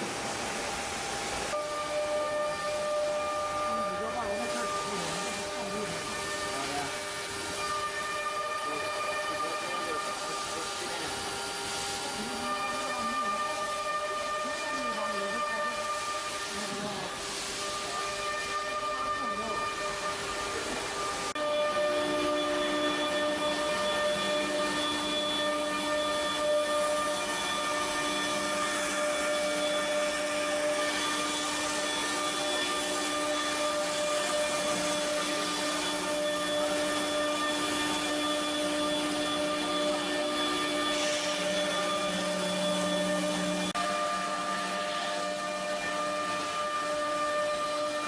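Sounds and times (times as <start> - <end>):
router spindle whining: 0.0 - 48.0.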